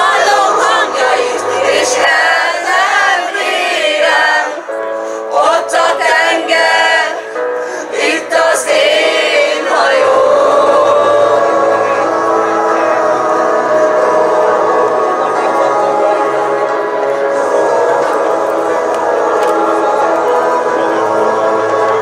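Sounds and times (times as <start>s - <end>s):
group singing into microphones: 0.0s - 22.0s.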